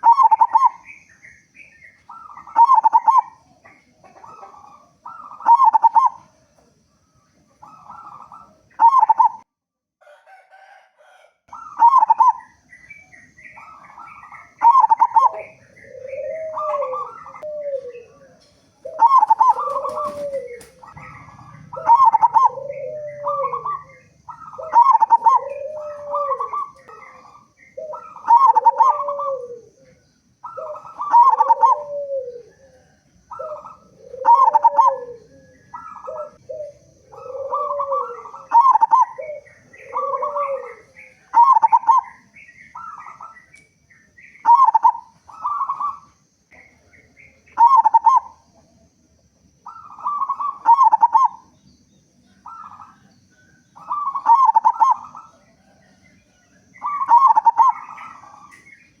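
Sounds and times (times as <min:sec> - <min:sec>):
dove cooing: 0:00.0 - 0:51.6, 0:52.2 - 0:59.0.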